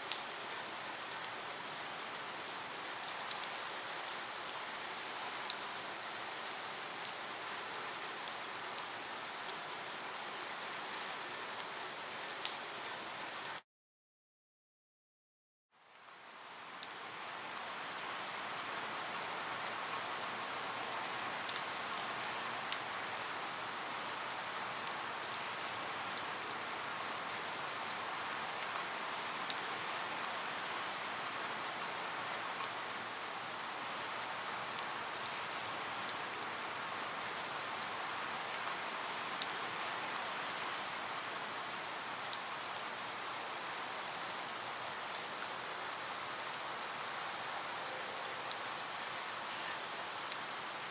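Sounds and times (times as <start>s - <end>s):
steady rain hiss: 0.0s - 13.6s, 15.8s - 50.9s.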